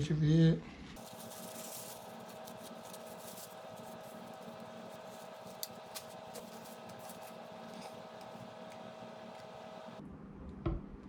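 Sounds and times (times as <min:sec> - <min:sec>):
faint steady hum: 0:01.0 - 0:10.0
light scraping and rubbing: 0:01.0 - 0:10.0.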